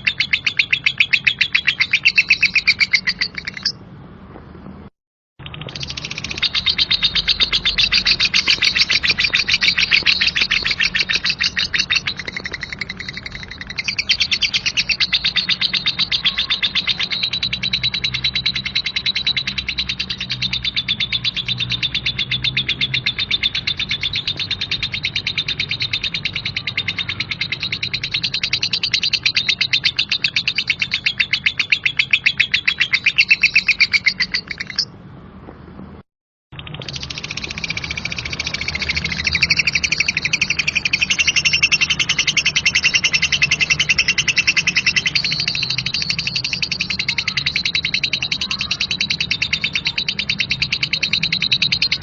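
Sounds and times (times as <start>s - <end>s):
lovebird chattering trill: 0.0s - 3.8s, 5.4s - 34.9s, 36.6s - 52.0s.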